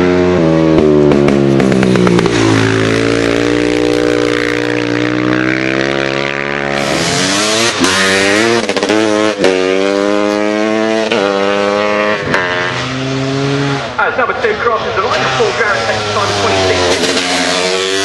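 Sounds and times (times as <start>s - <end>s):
motorcycle engine at high revs: 0.0s - 14.0s, 14.9s - 18.0s
motorcycle accelerating through gears: 0.0s - 14.1s, 14.9s - 18.0s.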